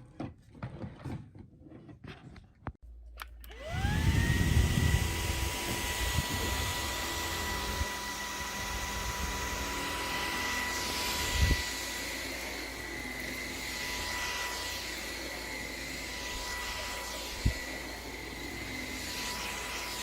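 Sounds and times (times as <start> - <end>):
stick vacuum whining: 3.2 - 20.0.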